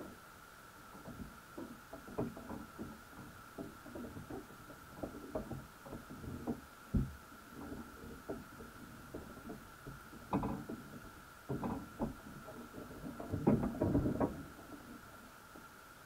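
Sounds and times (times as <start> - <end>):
muffled underwater knocks and scrapes: 0.8 - 15.7.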